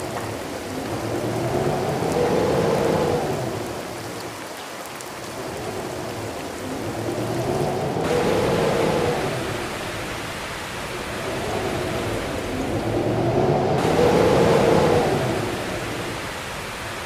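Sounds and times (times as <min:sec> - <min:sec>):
strong wind gusting: 0:00.0 - 0:04.3, 0:05.3 - 0:17.0
heavy rain pouring: 0:00.0 - 0:17.0.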